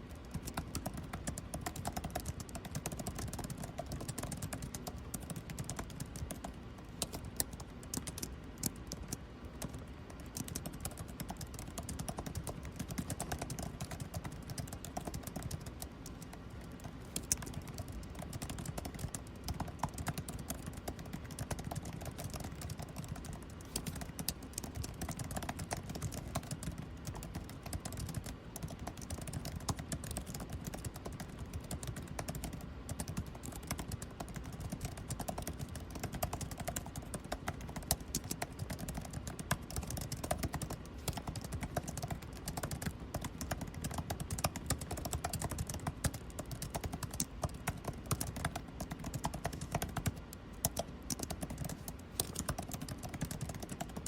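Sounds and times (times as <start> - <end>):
air conditioning hum: 0.0 - 54.0
computer keyboard typing: 0.0 - 54.0.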